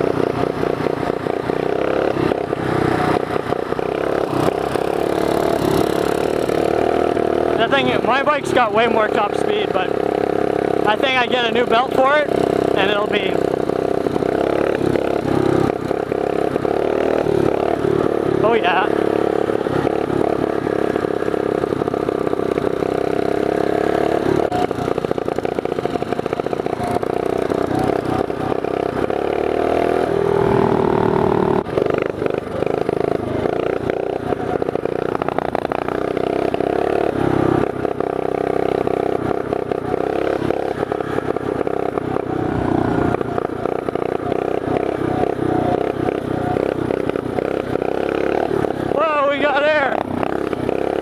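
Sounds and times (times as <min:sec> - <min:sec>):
mini bike engine revving: 0:00.0 - 0:51.0.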